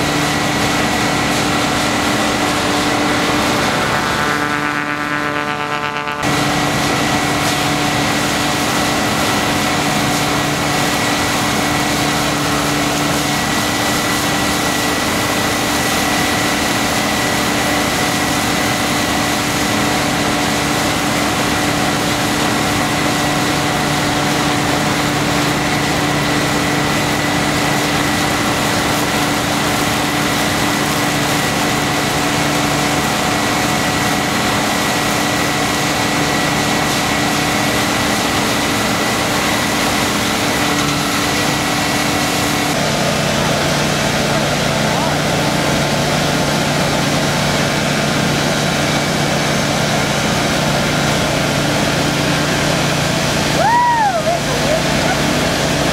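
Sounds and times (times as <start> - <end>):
snow blower running: 0.0 - 55.9.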